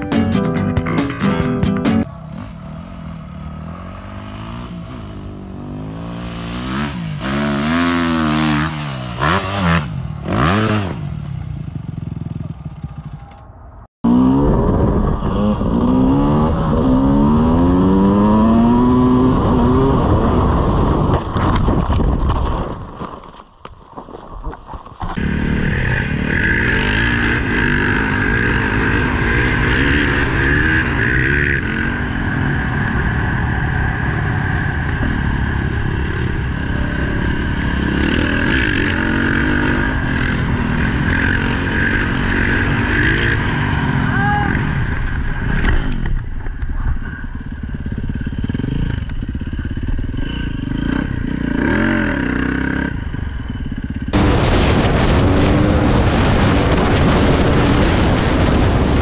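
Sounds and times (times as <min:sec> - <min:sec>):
motorcycle engine revving: 0:01.1 - 0:22.0, 0:25.1 - 0:59.0
dirt bike engine at high revs: 0:02.0 - 0:13.4, 0:14.0 - 0:22.4, 0:25.1 - 0:59.0.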